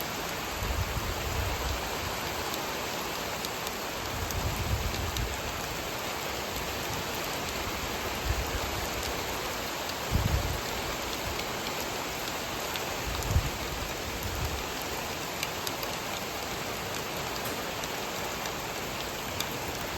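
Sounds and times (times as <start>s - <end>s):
steady rain falling: 0.0s - 19.9s.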